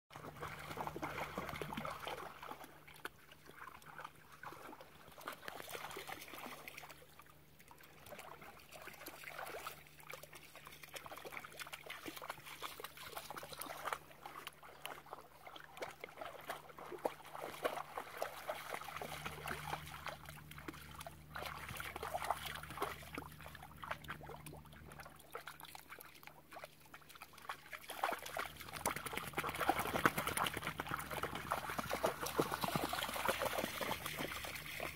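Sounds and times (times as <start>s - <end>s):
dogs splashing through water: 0.1s - 34.9s.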